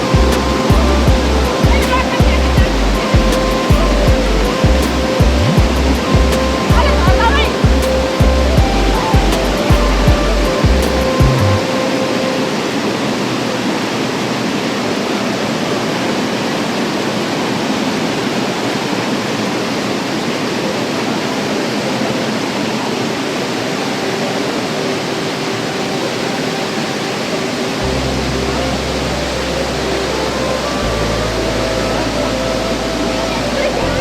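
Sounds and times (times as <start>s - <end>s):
rushing water roar: 0.0s - 34.0s.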